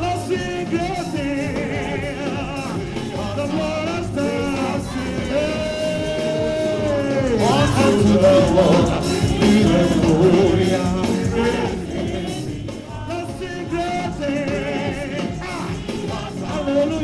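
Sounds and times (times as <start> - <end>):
band with steady drum beat: 0.0 - 17.0
voices singing gospel song: 0.0 - 17.0.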